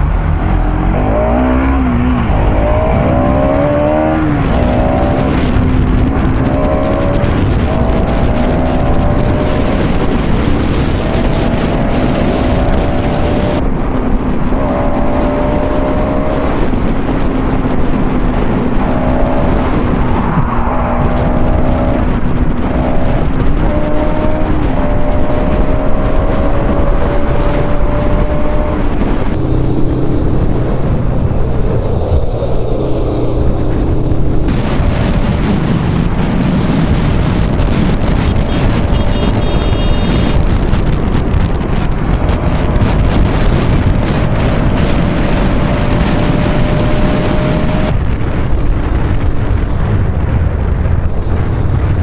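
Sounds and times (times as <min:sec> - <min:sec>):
motorcycle engine running: 0:00.0 - 0:52.0
wind noise on microphone: 0:00.0 - 0:52.0.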